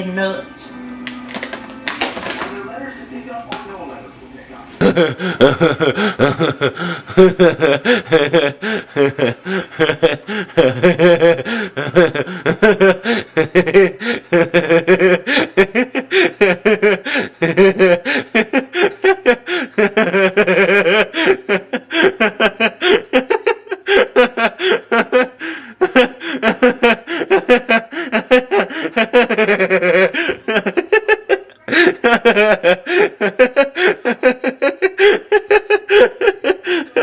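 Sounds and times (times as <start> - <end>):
man laughing: 4.8 - 37.0.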